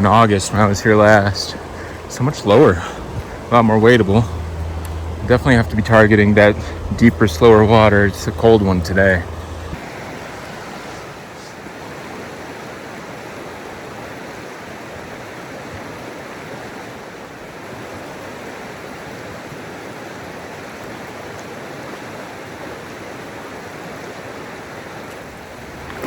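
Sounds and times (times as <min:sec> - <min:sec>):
river current rushing: 0:00.0 - 0:26.0.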